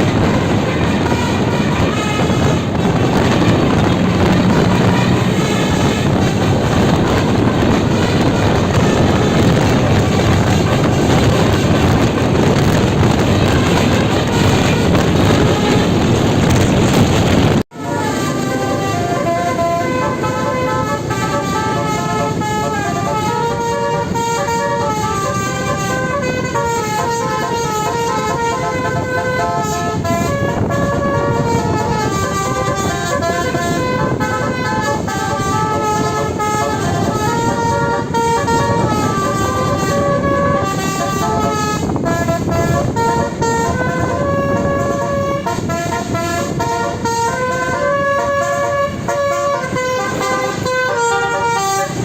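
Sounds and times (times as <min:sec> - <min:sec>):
multi-tone musical air horn: 0:00.0 - 0:52.0
steady vehicle noise: 0:00.0 - 0:52.0.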